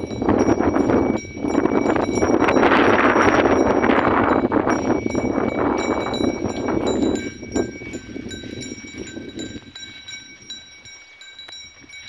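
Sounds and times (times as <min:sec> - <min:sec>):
small bells ringing: 0:00.0 - 0:12.0
wind noise on microphone: 0:00.0 - 0:12.0.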